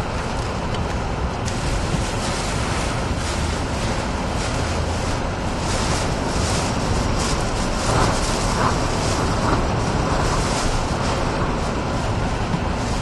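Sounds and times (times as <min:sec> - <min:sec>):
driving rain: 0:00.0 - 0:13.0
strong wind: 0:00.0 - 0:13.0
wind buffeting microphone: 0:00.0 - 0:13.0.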